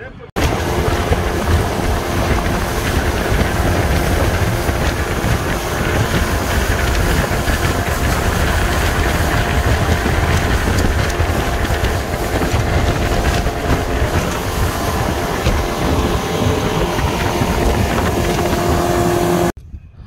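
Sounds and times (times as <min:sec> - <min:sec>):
outboard motor running: 0:00.4 - 0:19.6
wind buffeting microphone: 0:00.4 - 0:20.0.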